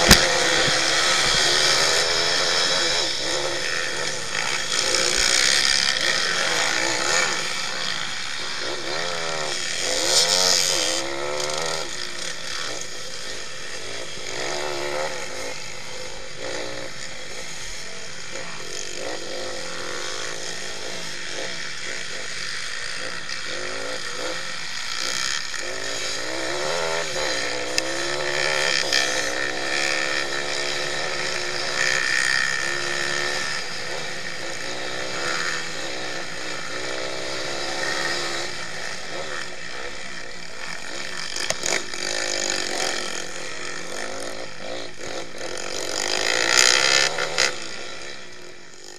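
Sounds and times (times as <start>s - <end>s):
other bikes running: 0.0s - 48.9s
pit bike engine revving: 0.0s - 48.9s.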